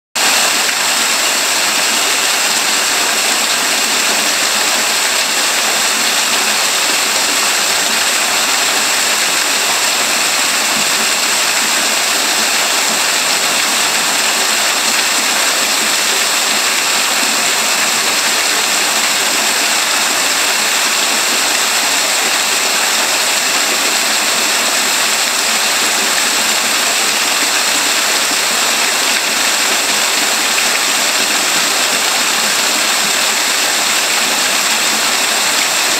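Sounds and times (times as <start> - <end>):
waterfall rushing and splashing: 0.2 - 35.9.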